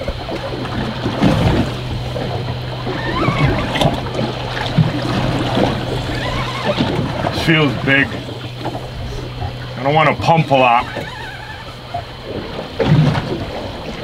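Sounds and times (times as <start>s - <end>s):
steady low hum: 0.0s - 14.0s
waves slapping a boat hull: 0.0s - 14.0s.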